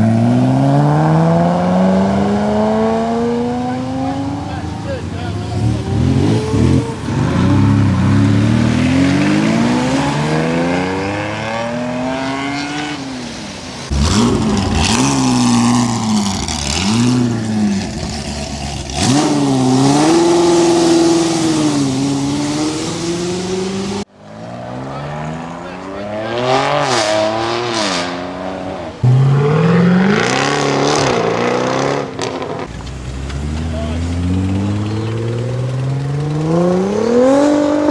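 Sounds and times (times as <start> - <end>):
car engines revving: 0.0 - 37.9.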